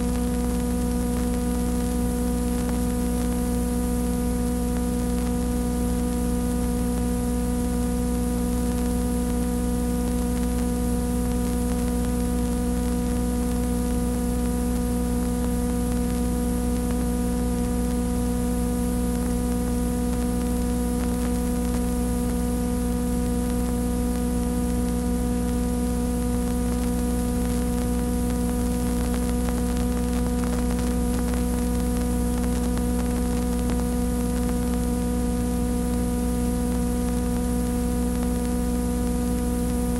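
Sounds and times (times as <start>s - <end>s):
electrical mains hum: 0.0s - 39.9s
hiss and static: 0.0s - 39.9s.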